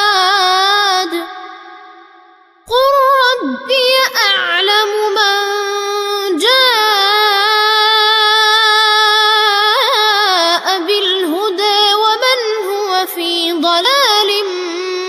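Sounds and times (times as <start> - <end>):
boy chanting melodically: 0.0 - 1.9, 2.7 - 15.0.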